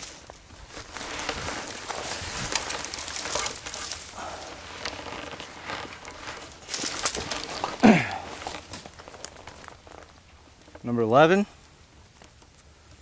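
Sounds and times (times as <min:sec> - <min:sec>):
footsteps crunching on dry ground: 0:00.0 - 0:12.4
brush rustling: 0:00.0 - 0:13.0.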